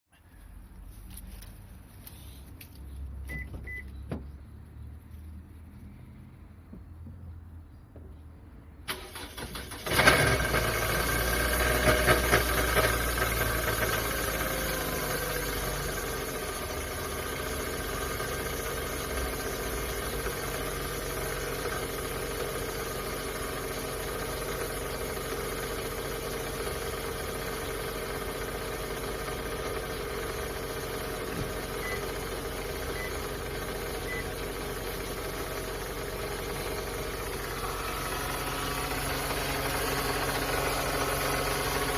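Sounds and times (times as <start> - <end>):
car engine starting and idling: 0.7 - 41.9.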